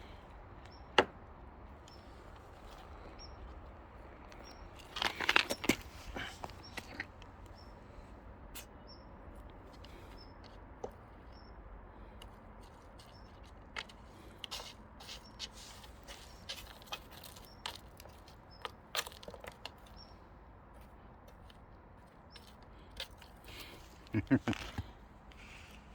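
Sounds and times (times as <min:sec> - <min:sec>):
rustles and light clicks: 0:00.6 - 0:07.6, 0:12.1 - 0:25.9.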